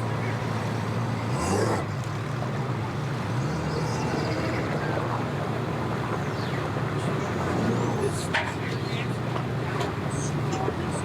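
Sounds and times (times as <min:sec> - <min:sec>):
traffic noise: 0:00.0 - 0:11.0
vehicle engine humming: 0:00.0 - 0:11.0.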